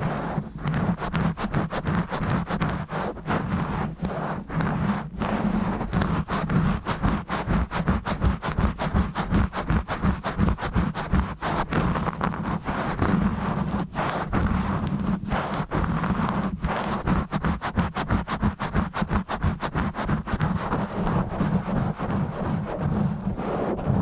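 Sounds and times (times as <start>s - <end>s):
scratching on microphone: 0.0s - 24.0s.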